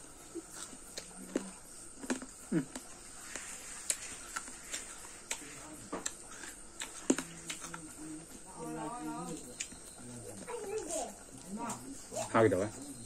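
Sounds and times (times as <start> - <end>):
chewing crunchy fruit: 0.0 - 13.0.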